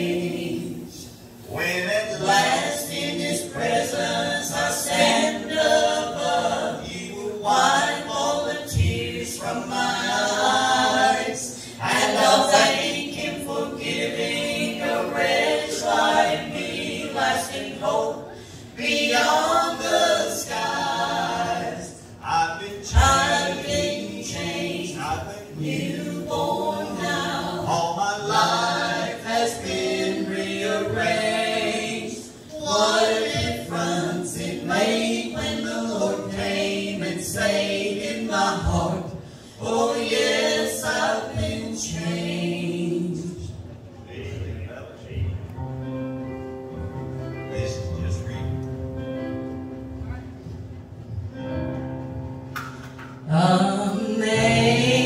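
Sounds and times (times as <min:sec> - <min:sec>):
group singing a hymn: 0:00.0 - 0:44.5, 0:52.8 - 0:55.0.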